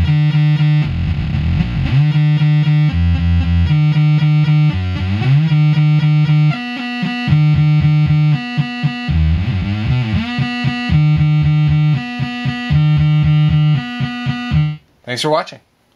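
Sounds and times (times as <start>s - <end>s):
buzzy synthesizer line: 0.0s - 14.8s.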